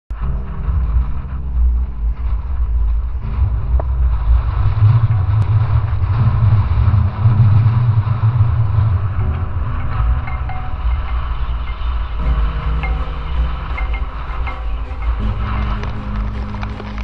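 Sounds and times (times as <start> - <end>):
low steady hum: 0.1 - 17.0
wind buffeting microphone: 0.2 - 17.0.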